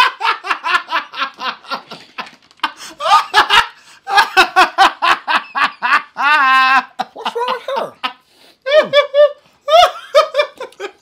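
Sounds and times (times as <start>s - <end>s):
hearty laughter: 0.0s - 11.0s.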